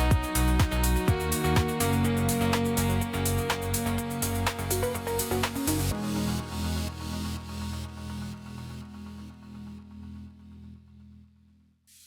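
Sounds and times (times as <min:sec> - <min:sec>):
ambient house music: 0:00.0 - 0:10.3.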